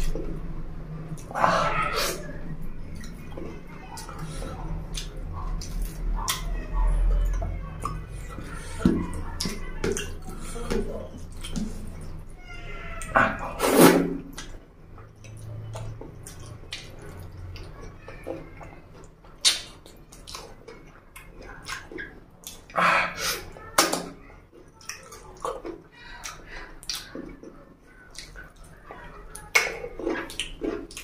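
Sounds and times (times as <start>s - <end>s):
open-mouthed chewing and lip-smacking: 0.0s - 12.3s, 13.0s - 31.0s.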